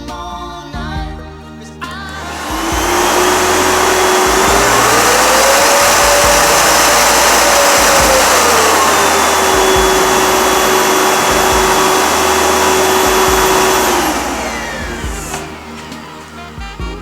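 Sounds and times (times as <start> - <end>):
vacuum cleaner motor whine: 2.0 - 17.0.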